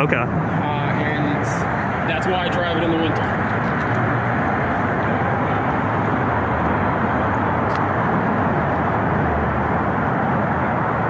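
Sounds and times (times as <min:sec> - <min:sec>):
road traffic roar: 0:00.0 - 0:11.0.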